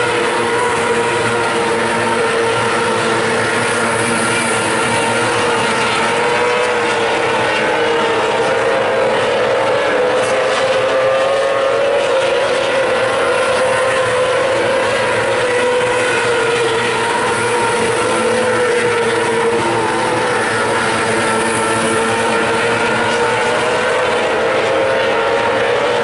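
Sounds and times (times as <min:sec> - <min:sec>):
racing car engines droning: 0:00.0 - 0:26.0.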